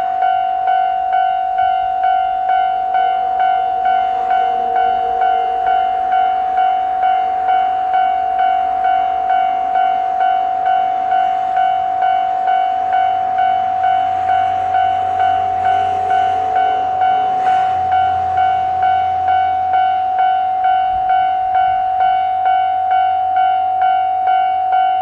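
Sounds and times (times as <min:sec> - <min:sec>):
diesel railcar rumble: 0:00.0 - 0:25.0
level crossing bell ringing: 0:00.0 - 0:25.0.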